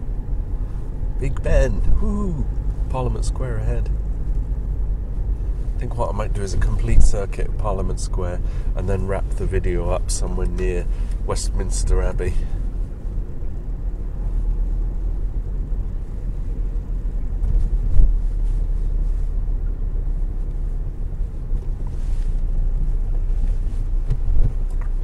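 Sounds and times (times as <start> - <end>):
car cabin rumble: 0.0 - 25.0.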